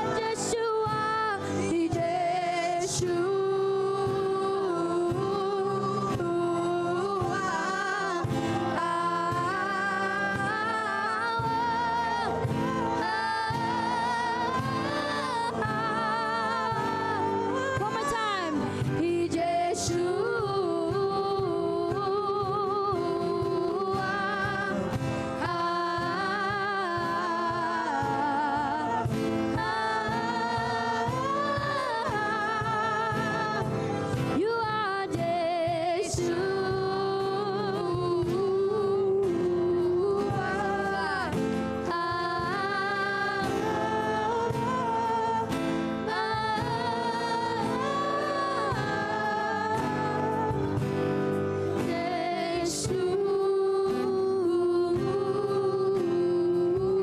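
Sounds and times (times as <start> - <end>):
guitar accompaniment: 0.0 - 57.0
person singing with vibrato: 0.0 - 57.0.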